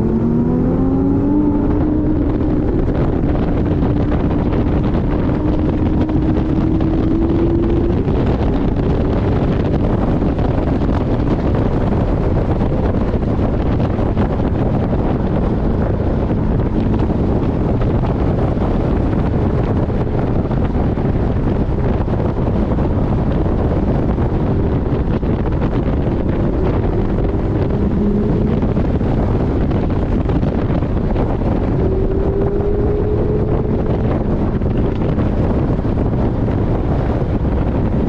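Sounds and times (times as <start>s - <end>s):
car engine: 0.0s - 38.0s
heavy wind rush on microphone: 0.0s - 38.0s.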